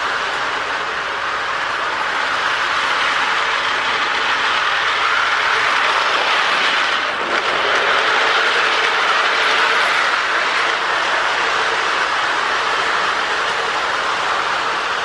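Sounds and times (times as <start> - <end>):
toy train motor whirring: 0.0 - 15.0
wheels rolling on rails: 0.0 - 15.0.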